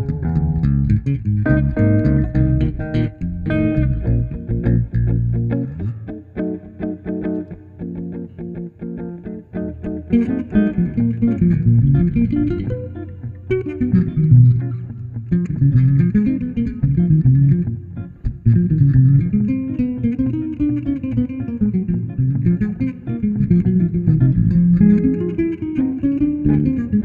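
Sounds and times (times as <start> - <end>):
melodic bass line: 0.0 - 6.2, 9.7 - 27.0
electric guitar notes: 0.0 - 27.0.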